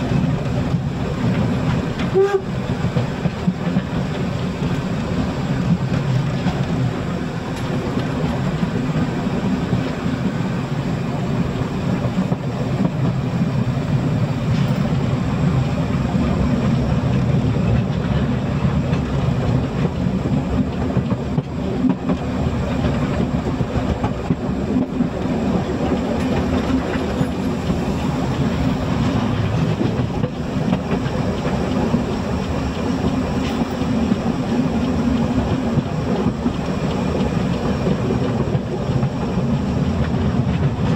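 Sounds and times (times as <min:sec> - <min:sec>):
steam train running: 0:00.0 - 0:40.9.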